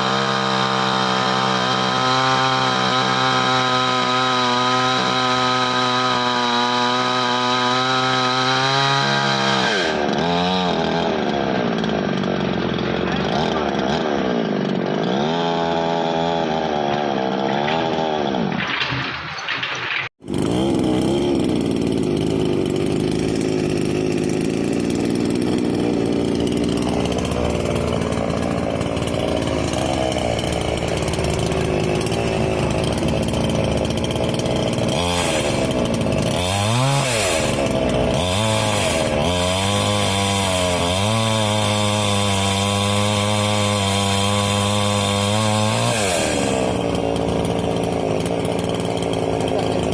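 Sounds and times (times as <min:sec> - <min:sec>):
chainsaw engine running: 0:00.0 - 0:49.9.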